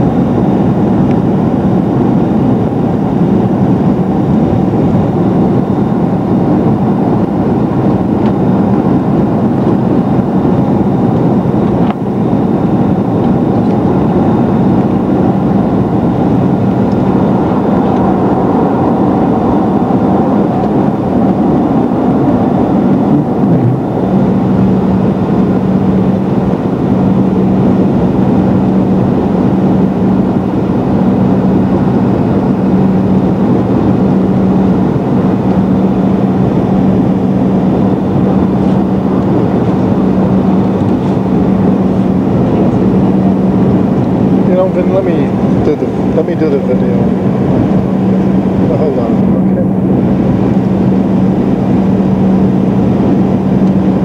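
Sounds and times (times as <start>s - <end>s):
jet engines running: 0.0s - 54.0s
loud rushing airflow: 0.0s - 54.0s
steady low hum: 0.0s - 54.0s.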